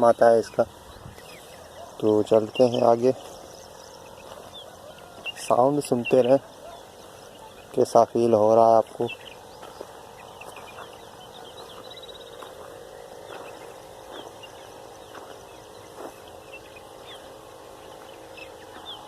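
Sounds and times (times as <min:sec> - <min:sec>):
birds chirping and calling: 0:00.0 - 0:19.0
high insect drone: 0:00.0 - 0:19.0.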